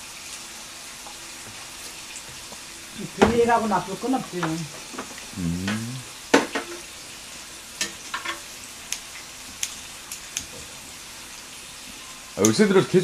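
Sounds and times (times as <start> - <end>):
meat sizzling on a grill: 0.0 - 5.4, 6.1 - 13.0.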